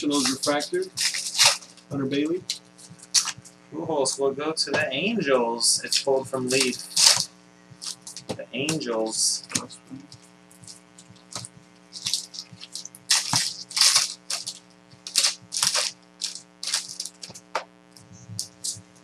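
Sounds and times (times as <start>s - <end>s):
card pack wrappers crinkling: 0.0s - 3.6s, 5.8s - 19.0s
faint electrical hum: 0.0s - 19.0s.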